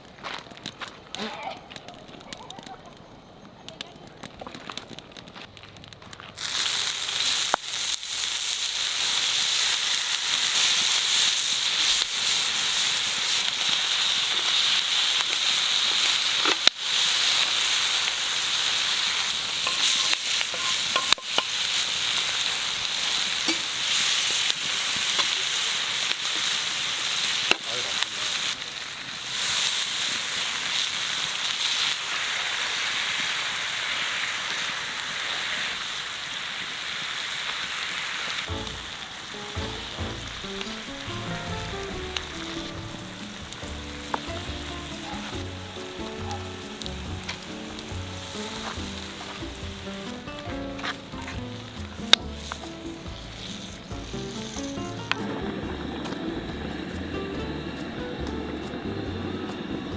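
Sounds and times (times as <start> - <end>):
food sizzling in hot fat: 6.1 - 59.9.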